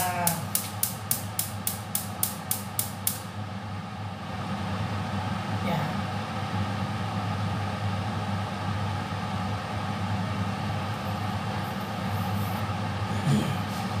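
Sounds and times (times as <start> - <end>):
extractor fan motor hum: 0.0 - 14.0.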